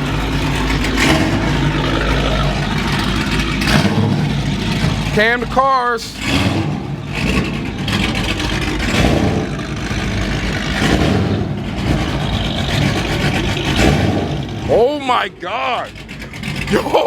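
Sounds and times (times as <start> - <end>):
engine choppy idle: 0.0 - 17.0.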